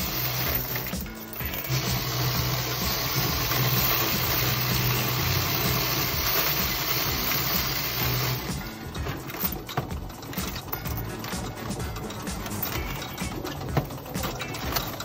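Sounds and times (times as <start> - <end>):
coin counting machine motor hum: 0.0 - 15.0
coins rattling: 0.0 - 15.0.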